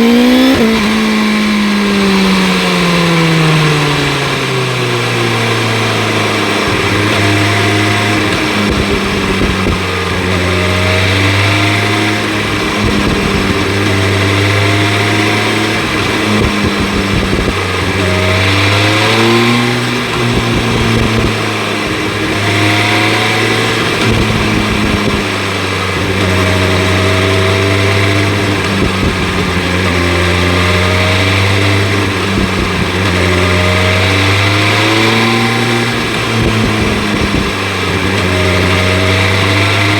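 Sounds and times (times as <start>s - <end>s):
motorcycle engine revving: 0.0s - 39.9s
wind rushing: 6.6s - 38.7s.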